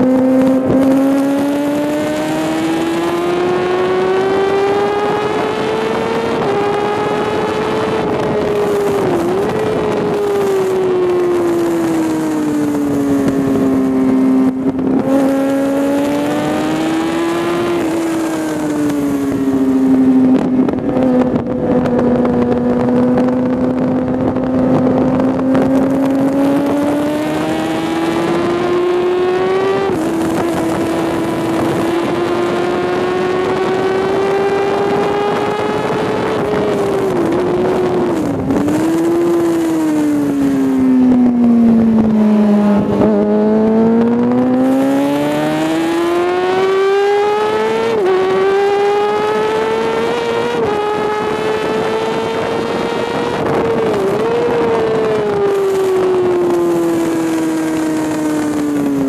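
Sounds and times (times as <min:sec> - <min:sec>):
motorcycle engine revving: 0:00.0 - 0:59.0
wind rushing on microphone: 0:00.0 - 0:59.0.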